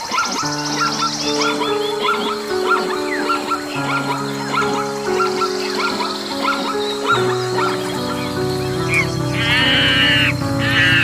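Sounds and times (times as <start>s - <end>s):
background music with held notes: 0.0s - 11.0s
short chirping animal calls: 0.0s - 11.0s.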